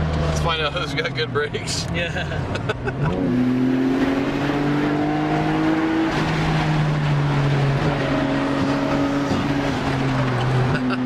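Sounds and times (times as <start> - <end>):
car engine pulling: 0.0 - 11.0.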